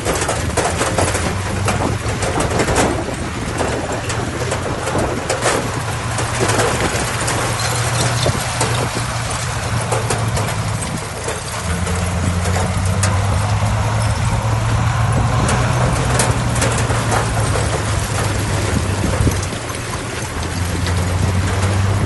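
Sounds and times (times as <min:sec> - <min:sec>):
heavy diesel engine running: 0:00.0 - 0:22.0
scattered knocks: 0:00.0 - 0:22.0.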